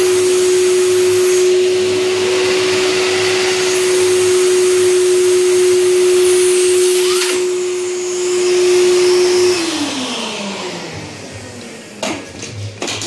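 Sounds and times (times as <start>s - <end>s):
suction turbine whine: 0.0s - 12.0s.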